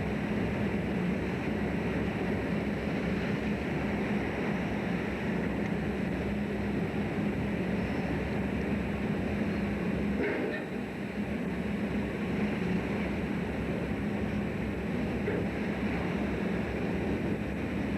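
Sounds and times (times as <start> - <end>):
boat engine drone: 0.0 - 17.9.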